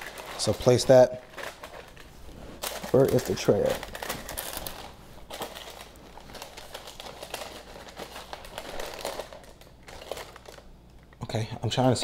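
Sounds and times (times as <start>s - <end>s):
parchment paper crinkling: 0.0s - 10.8s.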